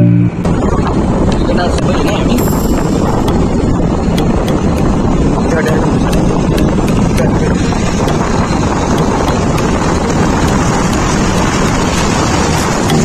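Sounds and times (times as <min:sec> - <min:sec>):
vehicle running noise: 0:00.0 - 0:13.0
wind buffeting microphone: 0:00.0 - 0:13.0.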